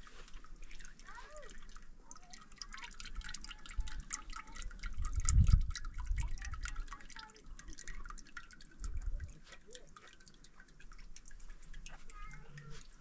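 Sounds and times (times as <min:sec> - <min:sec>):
quick liquid drips and pops: 0:00.0 - 0:13.0.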